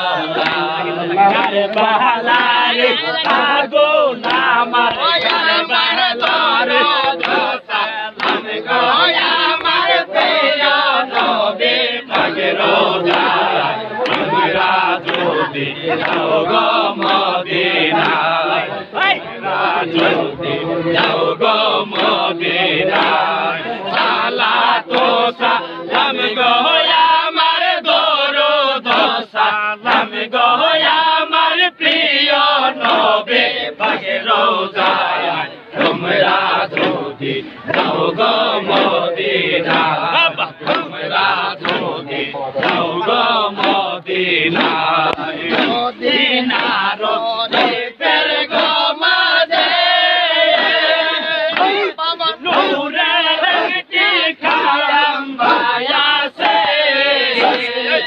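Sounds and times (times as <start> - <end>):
crowd of men chanting: 0.0 - 58.0.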